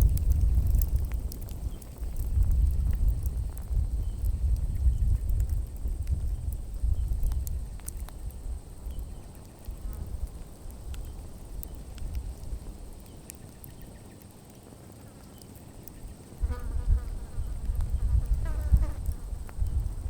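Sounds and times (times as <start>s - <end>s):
campfire crackling and popping: 0.0s - 16.4s, 17.5s - 20.0s.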